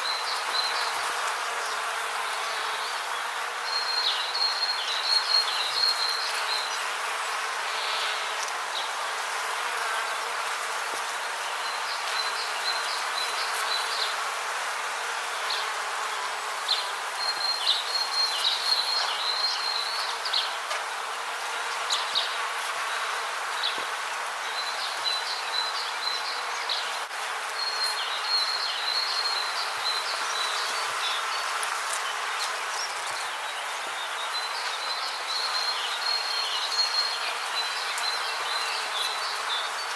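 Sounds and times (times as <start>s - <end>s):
steady rainforest hiss: 0.0s - 39.9s.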